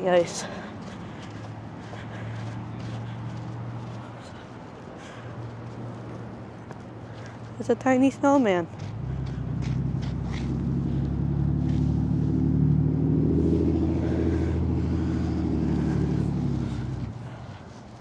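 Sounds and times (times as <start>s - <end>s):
vehicle engine passing by: 0.0s - 17.8s.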